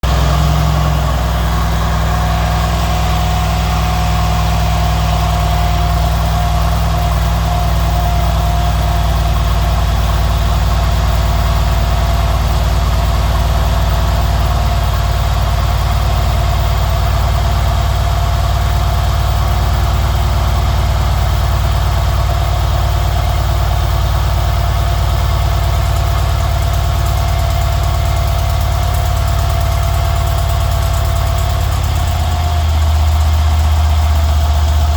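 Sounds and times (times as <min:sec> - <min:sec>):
car engine idling: 0:00.0 - 0:34.9
engine ticking: 0:00.0 - 0:34.9.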